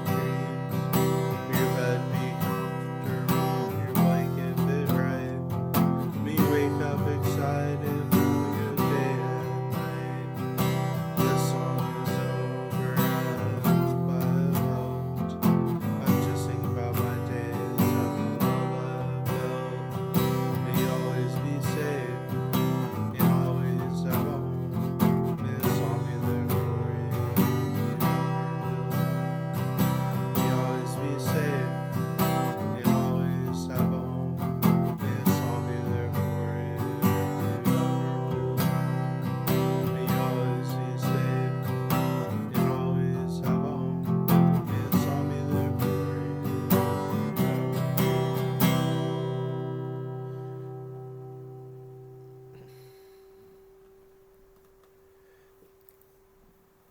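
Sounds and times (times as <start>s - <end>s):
acoustic guitar strumming: 0.0s - 55.4s.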